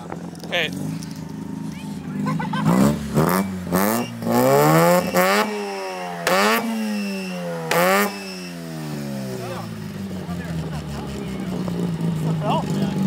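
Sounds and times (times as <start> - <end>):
rotary engine revving: 0.0 - 13.0.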